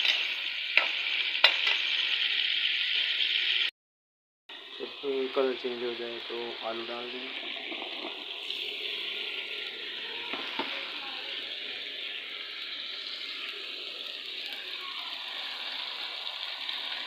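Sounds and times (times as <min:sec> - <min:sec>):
food frying hiss: 0:00.0 - 0:03.7, 0:04.5 - 0:17.0.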